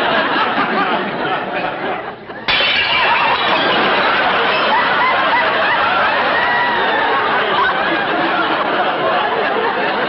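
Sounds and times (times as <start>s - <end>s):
studio audience laughing: 0.0s - 2.4s, 3.7s - 10.0s.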